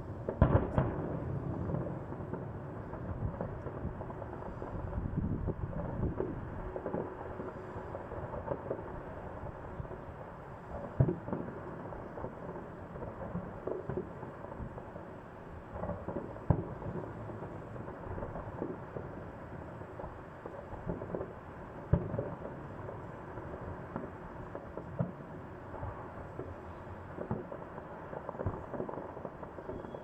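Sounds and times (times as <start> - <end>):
fireworks booming: 0.0 - 30.0
rumble of distant fireworks: 0.0 - 30.0.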